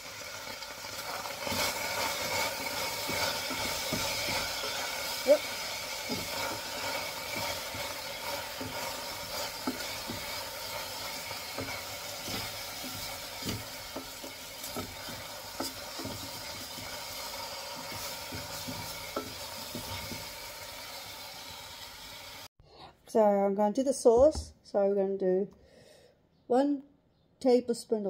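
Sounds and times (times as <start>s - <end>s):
food sizzling in hot oil: 0.0s - 22.5s.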